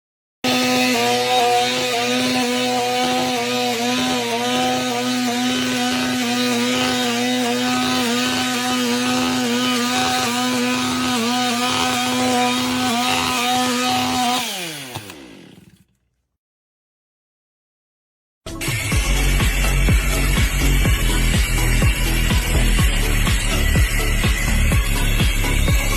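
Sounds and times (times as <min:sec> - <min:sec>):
power tool motor running: 0:00.4 - 0:16.2, 0:18.6 - 0:25.9.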